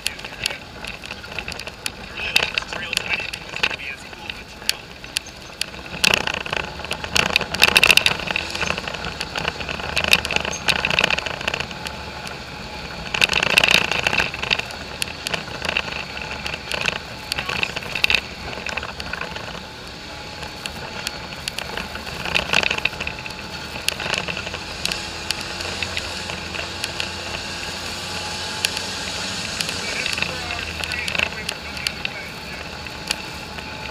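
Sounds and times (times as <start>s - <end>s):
atv engine running: 0.0s - 33.9s
clattering and rattling over bumps: 0.0s - 33.9s.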